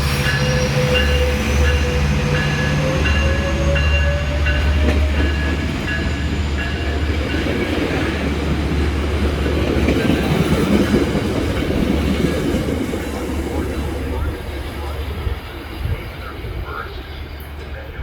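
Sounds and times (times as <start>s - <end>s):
train rolling on rails: 0.0s - 18.0s.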